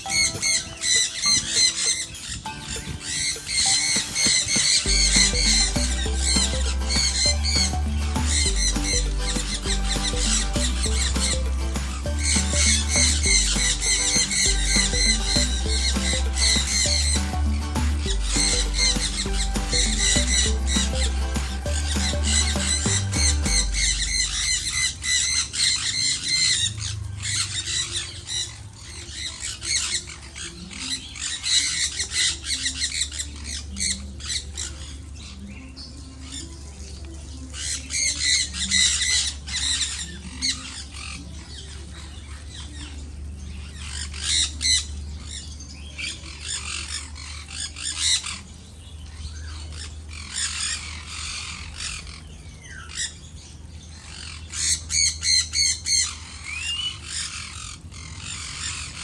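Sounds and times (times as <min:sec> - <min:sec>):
parrots squawking: 0:00.0 - 0:35.4, 0:37.6 - 0:59.0.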